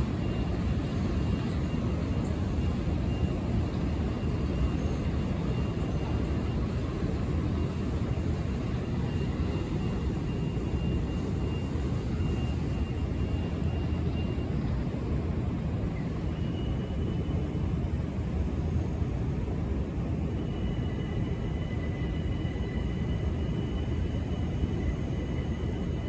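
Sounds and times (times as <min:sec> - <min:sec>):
faint high whine: 0:00.0 - 0:26.0
subway train rumble: 0:00.0 - 0:26.0.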